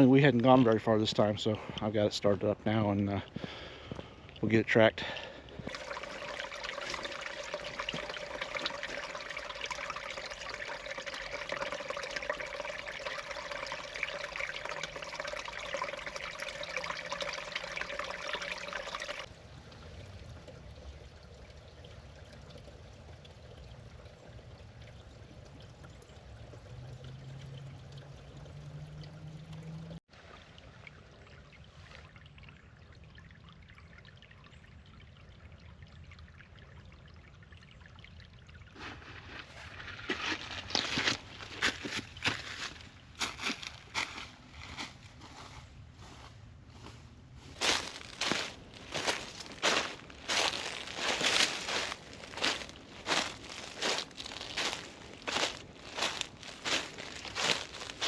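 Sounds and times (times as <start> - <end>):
water trickling over stones: 0.0 - 58.0.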